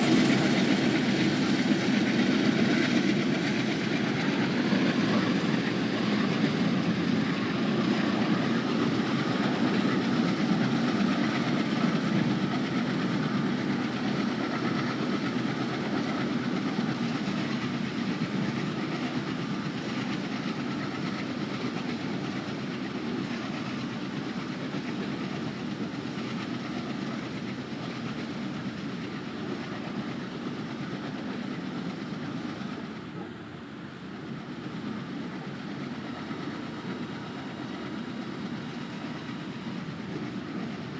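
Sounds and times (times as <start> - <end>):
freight train rumbling on rails: 0.0 - 40.9.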